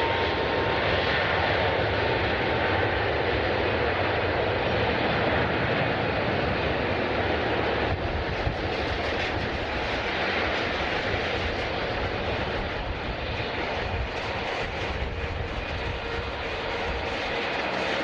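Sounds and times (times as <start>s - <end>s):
jet engine rushing: 0.0s - 18.0s.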